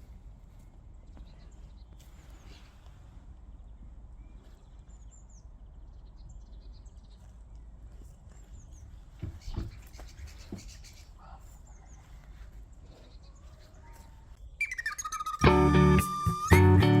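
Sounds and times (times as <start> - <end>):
small birds chirping: 0.0 - 15.5.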